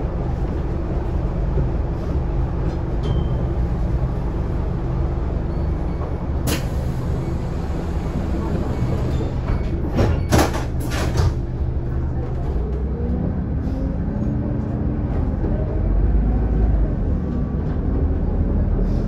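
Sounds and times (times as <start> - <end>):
bus diesel engine pulling away: 0.1 - 10.0, 10.8 - 19.0.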